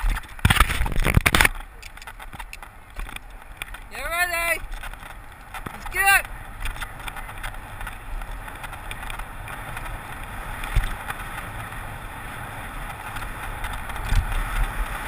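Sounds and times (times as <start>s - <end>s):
bicycle tyre road rumble: 0.0s - 15.0s.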